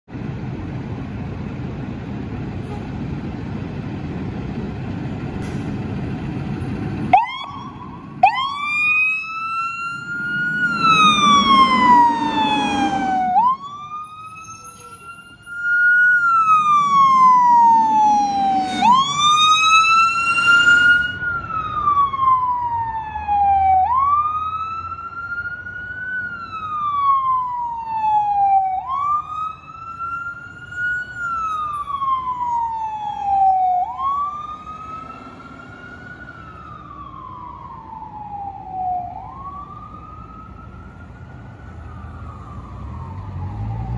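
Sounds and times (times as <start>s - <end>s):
fire engine siren wailing: 6.2s - 43.9s.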